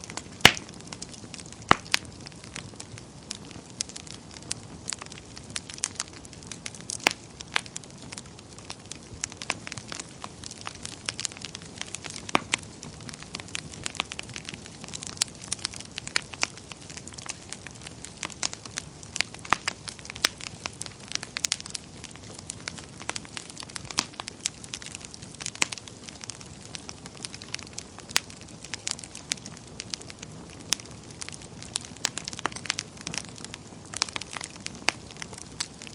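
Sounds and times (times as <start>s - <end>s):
fire popping and snapping: 0.0s - 35.9s
wood fire crackling: 0.0s - 35.9s.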